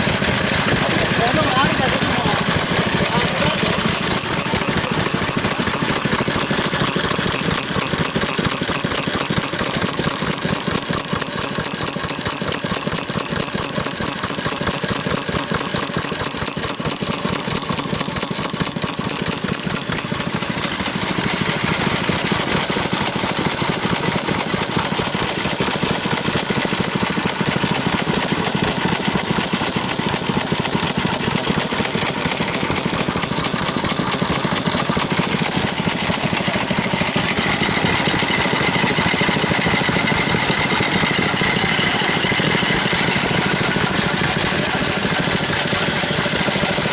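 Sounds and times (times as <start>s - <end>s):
stationary engines running: 0.0s - 46.9s.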